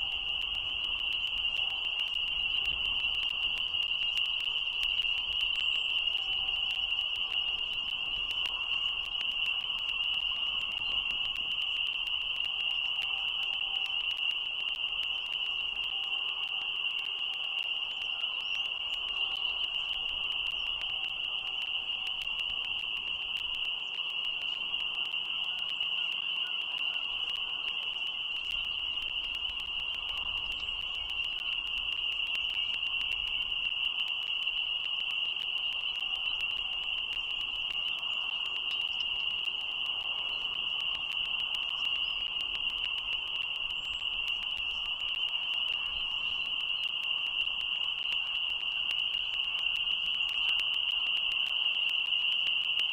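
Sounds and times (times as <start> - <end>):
frogs trilling in chorus: 0.0 - 52.9.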